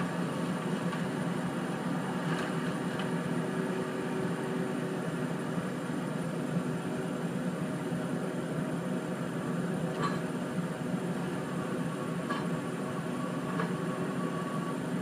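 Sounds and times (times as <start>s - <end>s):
distant diesel engine running: 0.0s - 15.0s.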